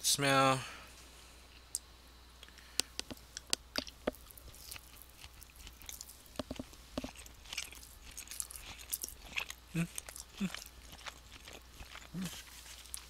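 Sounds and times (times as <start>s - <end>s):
person chewing meat: 2.5s - 13.0s.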